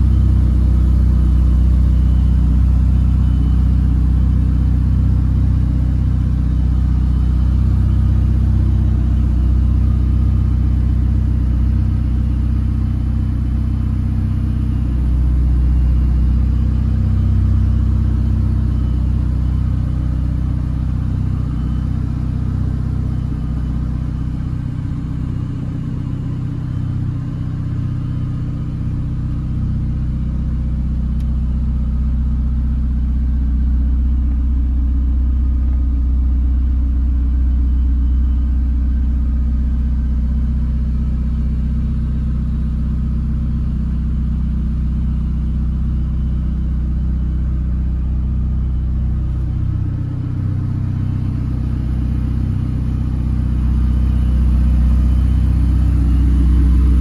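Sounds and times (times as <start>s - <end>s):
car engine rumbling at low revs: 0.0s - 57.0s.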